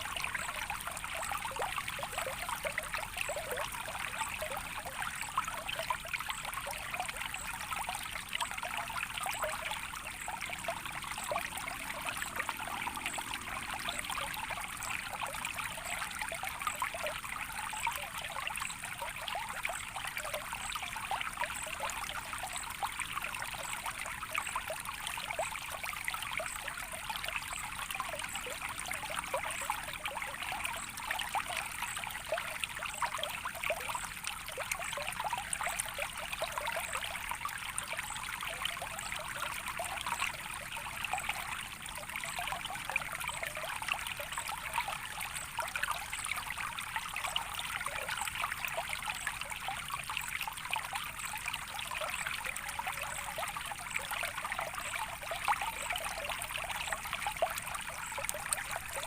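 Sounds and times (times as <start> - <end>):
stream trickling and babbling: 0.0 - 59.0.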